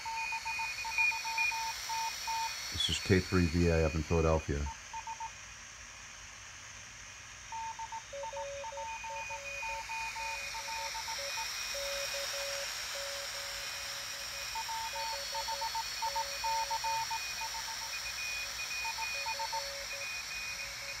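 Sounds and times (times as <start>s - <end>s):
radio band noise hiss: 0.0s - 5.2s, 7.4s - 21.0s.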